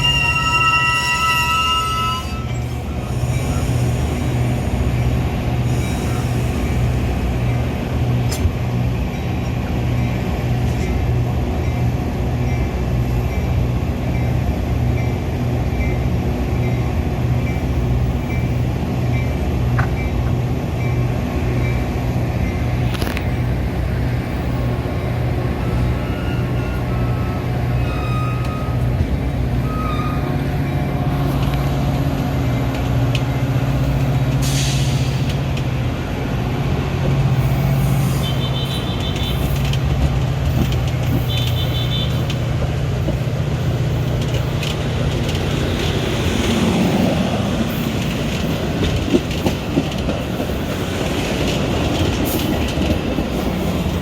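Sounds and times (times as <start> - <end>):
train rumbling with pulsing beat: 0.0 - 54.0.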